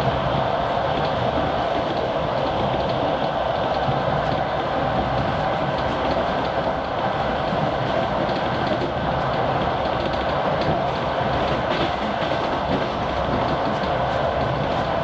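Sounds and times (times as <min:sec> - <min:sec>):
diesel locomotive engine drone: 0:00.0 - 0:15.0
train wheels rumbling on rails: 0:00.0 - 0:15.0.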